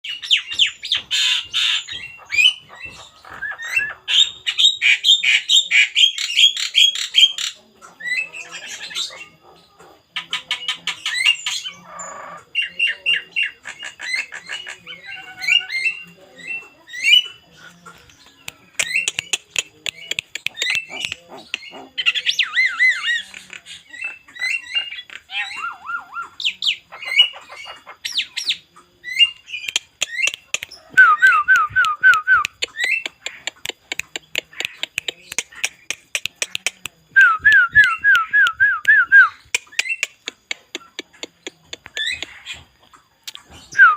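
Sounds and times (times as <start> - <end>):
mynas calling and singing: 0.0 - 43.9.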